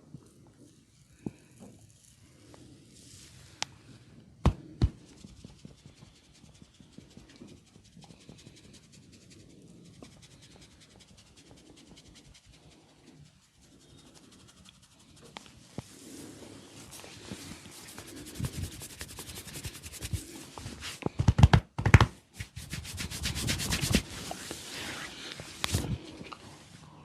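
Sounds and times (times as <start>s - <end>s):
hands rubbing hair and scalp: 4.5s - 26.6s.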